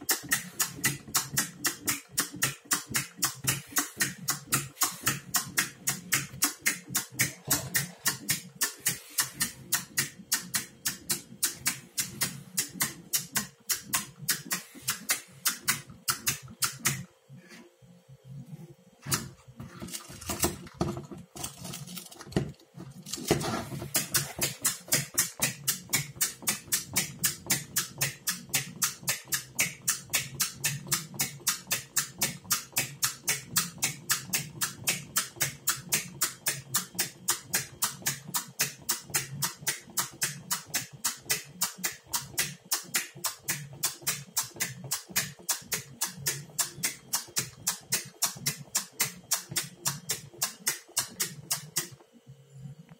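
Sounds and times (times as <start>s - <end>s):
clockwork toy clicking: 0.0s - 17.0s, 23.9s - 52.0s.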